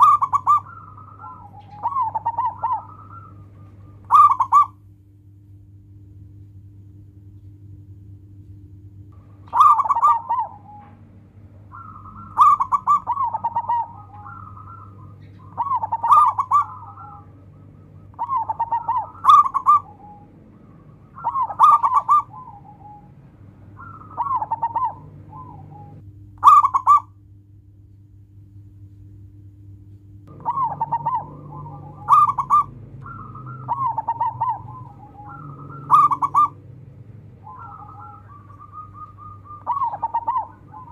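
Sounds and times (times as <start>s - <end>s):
dove cooing: 0.0s - 4.8s, 9.2s - 27.1s, 30.3s - 40.9s
faint low hum: 0.0s - 40.9s.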